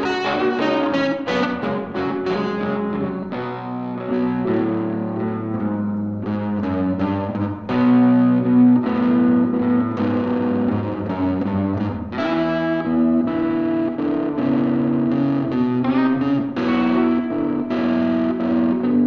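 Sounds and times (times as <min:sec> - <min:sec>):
distorted electric guitars blues: 0:00.0 - 0:19.0
slide guitar: 0:00.0 - 0:19.0.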